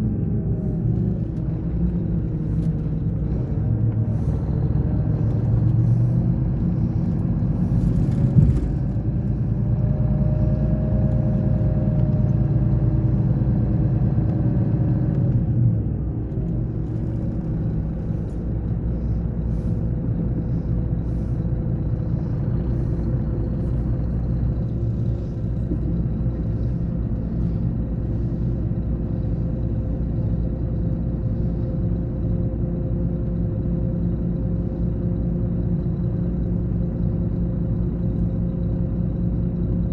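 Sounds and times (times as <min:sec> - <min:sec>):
coach diesel engine running: 0:00.0 - 0:39.9.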